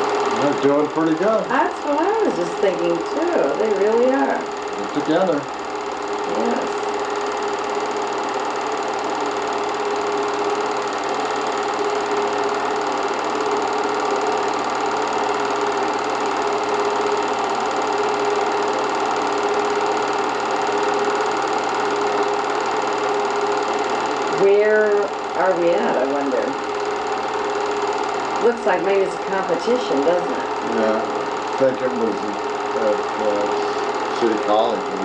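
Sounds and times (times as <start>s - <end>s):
film projector whirring: 0.0s - 35.0s.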